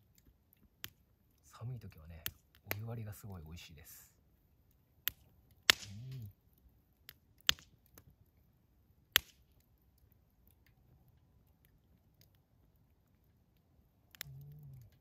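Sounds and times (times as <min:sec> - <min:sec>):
campfire popping and cracking: 0:00.0 - 0:15.0.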